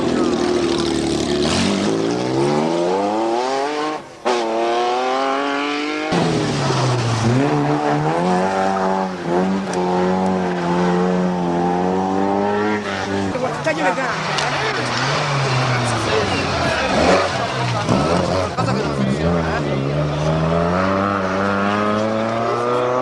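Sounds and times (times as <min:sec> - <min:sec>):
rally car engines revving: 0:00.0 - 0:23.0.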